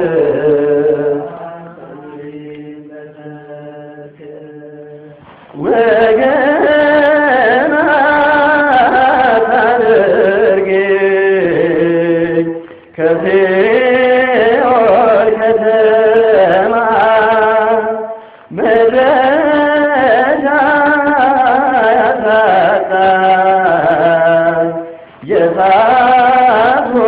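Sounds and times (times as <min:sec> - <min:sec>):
hymn singing: 0:00.0 - 0:27.0.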